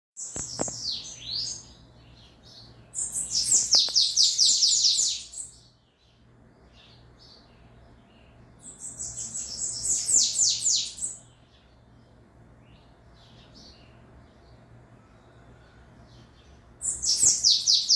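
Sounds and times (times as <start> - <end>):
songbird chirping and singing: 0.2 - 17.9.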